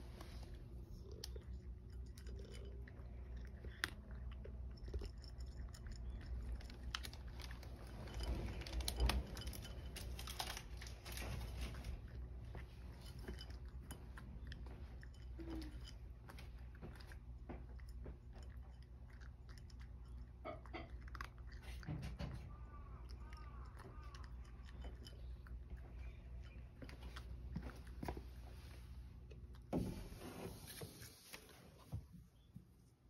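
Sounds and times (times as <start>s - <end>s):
cat crunching dry kibble: 0.1s - 28.5s.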